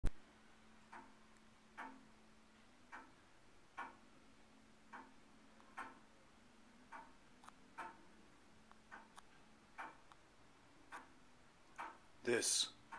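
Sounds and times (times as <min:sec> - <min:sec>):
clock ticking: 0:00.8 - 0:12.9.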